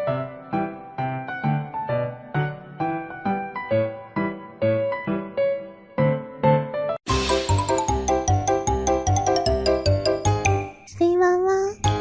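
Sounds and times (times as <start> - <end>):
piano melody: 0.0 - 11.0, 11.8 - 12.0.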